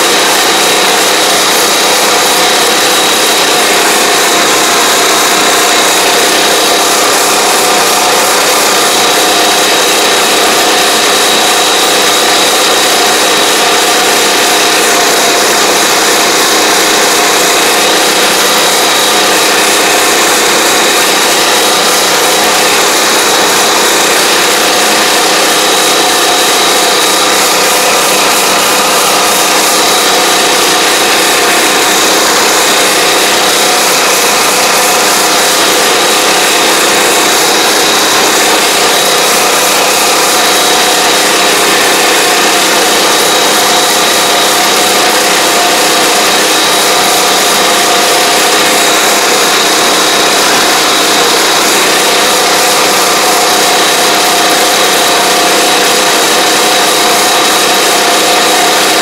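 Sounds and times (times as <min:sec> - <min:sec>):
small engine running steadily: 0:00.0 - 0:59.0
steady high whine: 0:00.0 - 0:59.0.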